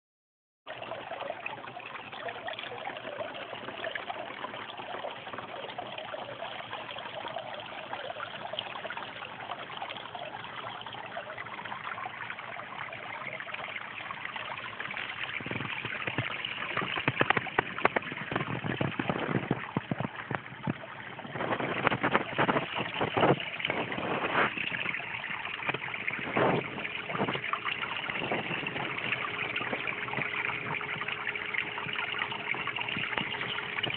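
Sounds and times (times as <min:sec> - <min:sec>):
water trickling into rock basin: 0:00.7 - 0:33.9.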